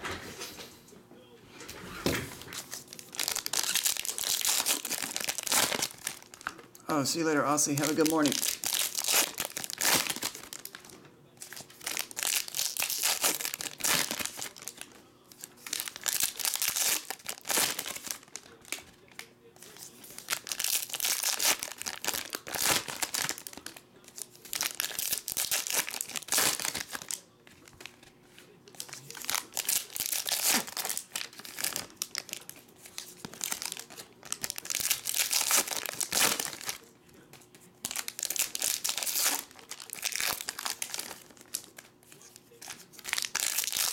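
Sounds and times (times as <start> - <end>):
foil wrappers tearing and crinkling: 2.4 - 43.9.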